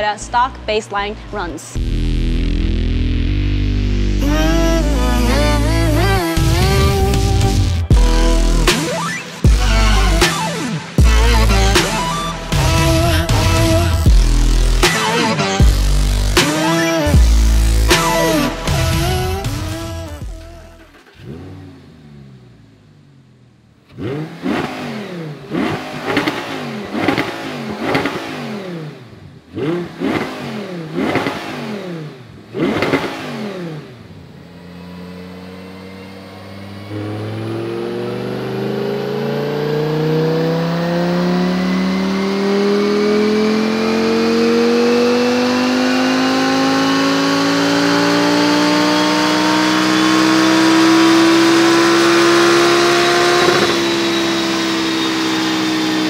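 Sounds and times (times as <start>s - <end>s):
car engine revving: 0.0s - 56.0s
car engine full-throttle pull: 3.8s - 56.0s.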